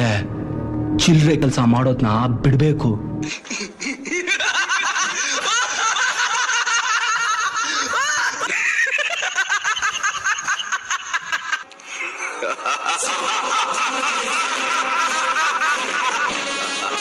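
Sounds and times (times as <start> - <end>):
man laughing: 3.2 - 17.0.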